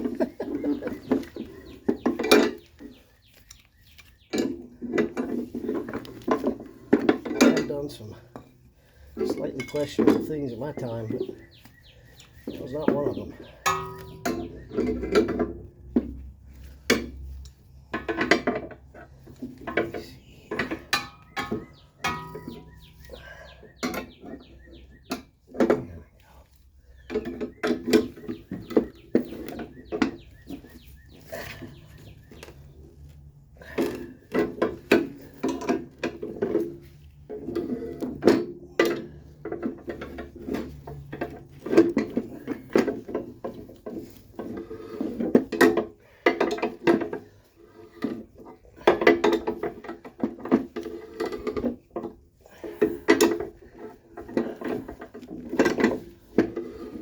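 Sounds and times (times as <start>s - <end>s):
spring compressor clicking and clinking: 0.0s - 8.6s, 12.2s - 26.0s, 33.6s - 57.0s.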